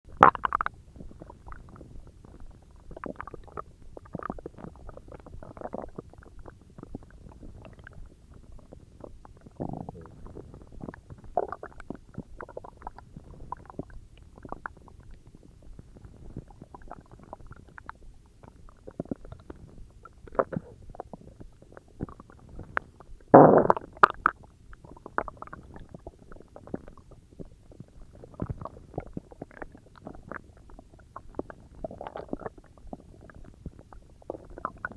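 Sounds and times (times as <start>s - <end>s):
stomach growling and gurgling: 0.1s - 34.9s.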